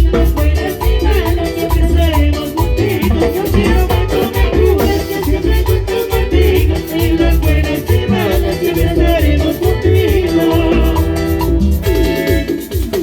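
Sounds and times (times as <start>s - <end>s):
latin dance music: 0.0s - 13.0s.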